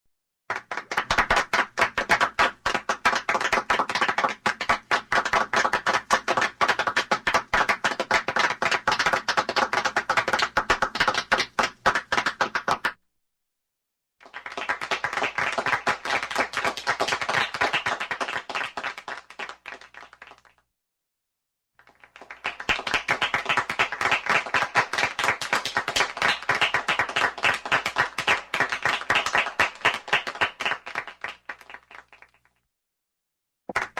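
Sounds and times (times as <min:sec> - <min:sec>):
people applauding: 0:00.5 - 0:13.0, 0:14.2 - 0:20.6, 0:21.8 - 0:32.5.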